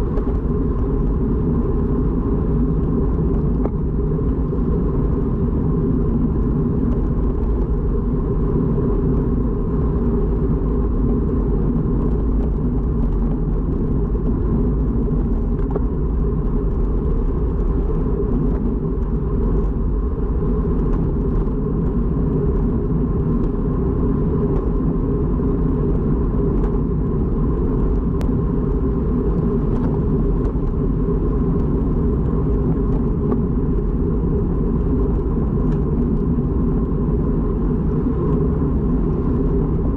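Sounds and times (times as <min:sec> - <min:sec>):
bicycle road noise: 0:00.0 - 0:39.9
wind rumble on microphone: 0:00.0 - 0:39.9.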